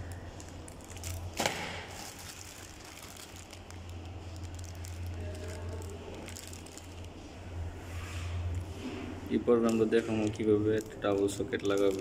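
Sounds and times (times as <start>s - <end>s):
plastic wrapping crinkling: 0.0s - 12.0s
steady low hum: 0.0s - 12.0s.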